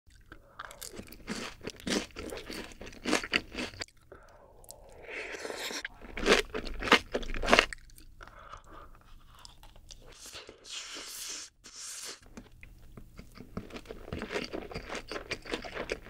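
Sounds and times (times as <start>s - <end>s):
soft chewing: 0.1s - 16.0s.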